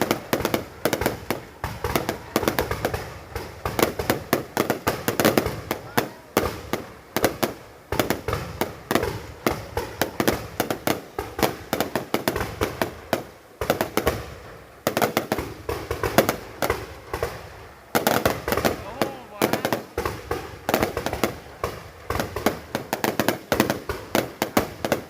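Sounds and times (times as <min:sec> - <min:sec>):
fireworks bangs and pops: 0:00.0 - 0:25.0.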